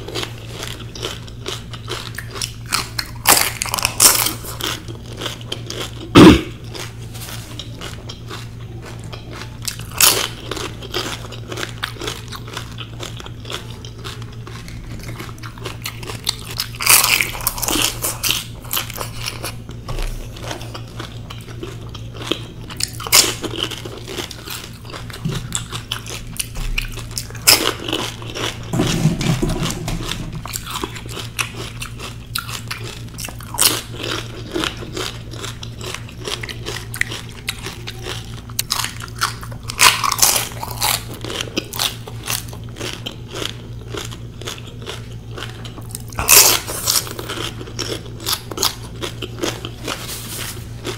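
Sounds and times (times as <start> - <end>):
crisp shells crunching in mouth: 0.0 - 50.9
low steady hum: 0.0 - 50.9
wet chewing: 0.0 - 50.9.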